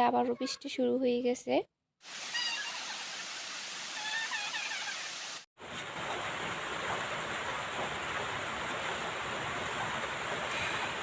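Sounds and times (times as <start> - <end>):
steady rain falling: 2.0 - 11.0.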